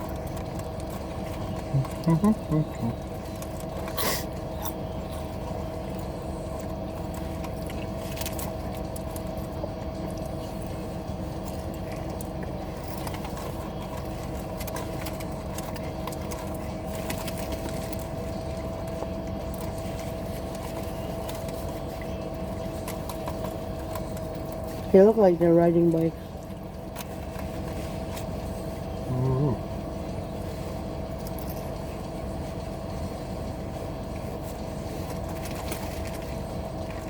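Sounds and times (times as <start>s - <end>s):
car interior rumble and hum: 0.0s - 37.0s
constant whining tone: 0.0s - 37.0s.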